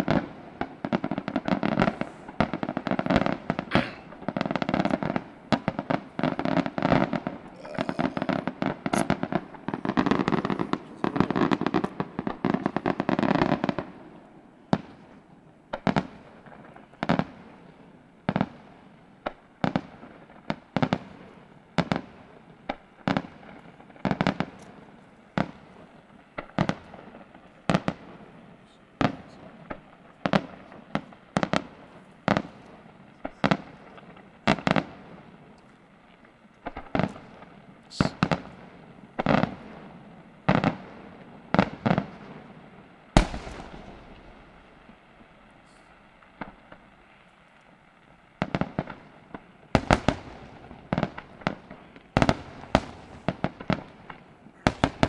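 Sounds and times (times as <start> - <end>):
fireworks sharp bangs: 0.0 - 35.6, 36.6 - 47.1, 48.3 - 55.0
fireworks bursts and crackling: 0.0 - 55.0.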